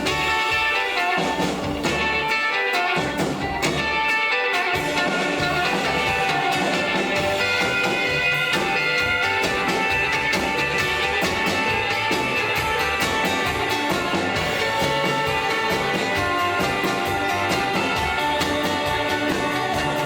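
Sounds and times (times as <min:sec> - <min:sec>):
bass and drums: 0:00.0 - 0:20.0
electric guitar solo: 0:00.0 - 0:20.0.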